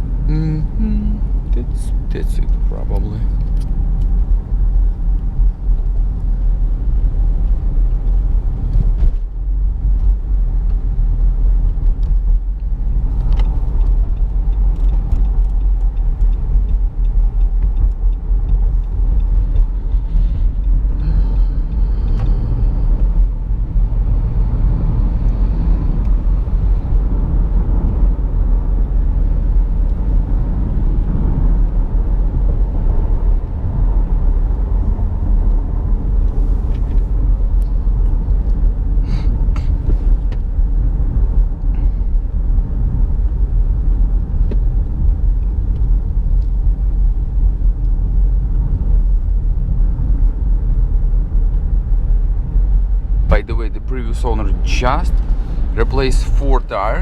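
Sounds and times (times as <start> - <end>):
low rumble inside car cabin: 0.0 - 57.0.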